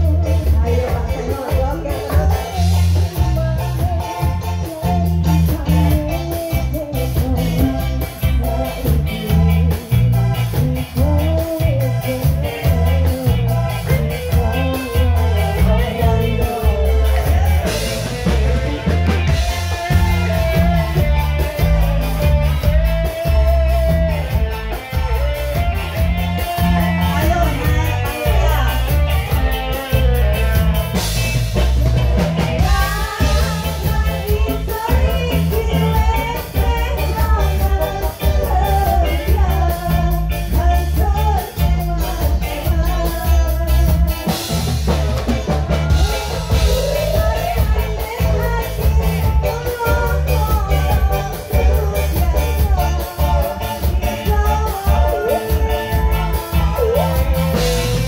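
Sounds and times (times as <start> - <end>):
live band through loudspeakers: 0.0 - 58.0
person singing into microphones: 0.0 - 58.0.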